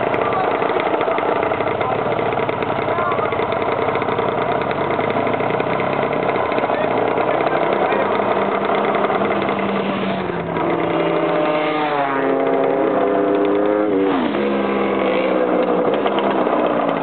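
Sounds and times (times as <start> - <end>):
motorcycles passing and revving: 0.0 - 17.0.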